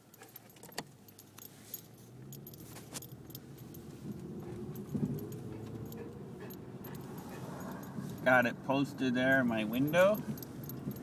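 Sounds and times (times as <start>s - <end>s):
car engine: 0.0s - 11.0s
light metallic jingling: 0.0s - 11.0s
road noise inside car: 0.0s - 11.0s.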